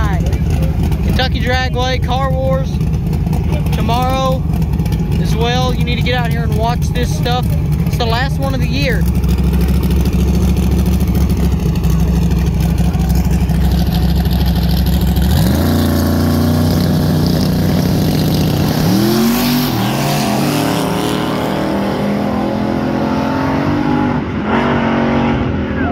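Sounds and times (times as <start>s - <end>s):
drag racing engines: 0.0s - 25.9s.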